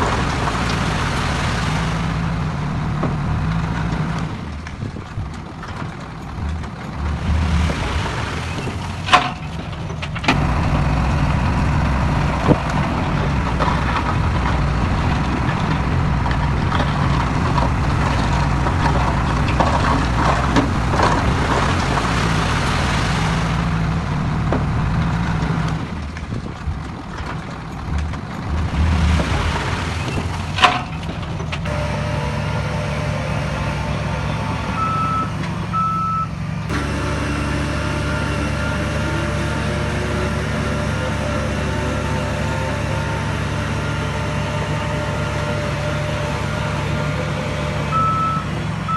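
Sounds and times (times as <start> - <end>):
diesel machinery engine running: 0.0 - 48.9.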